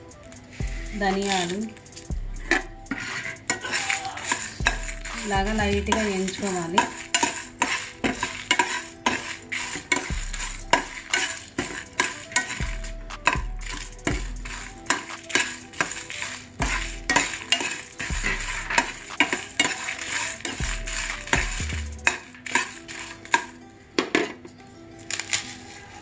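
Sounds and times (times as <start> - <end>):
metal ladle scraping dry lentils in pan: 0.5 - 23.6.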